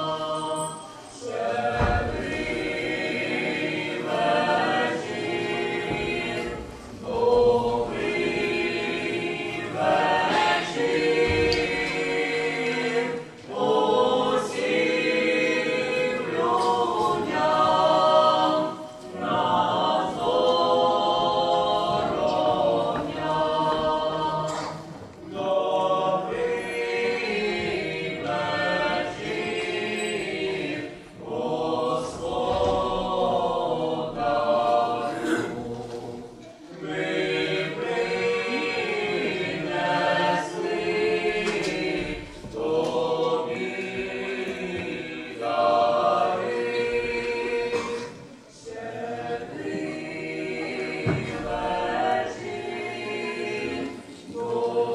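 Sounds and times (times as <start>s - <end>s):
choir singing unaccompanied: 0.0s - 54.9s.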